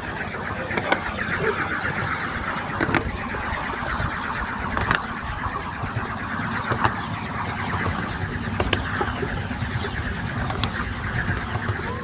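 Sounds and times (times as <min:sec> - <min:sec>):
miniature train rattling rumble: 0:00.0 - 0:12.0.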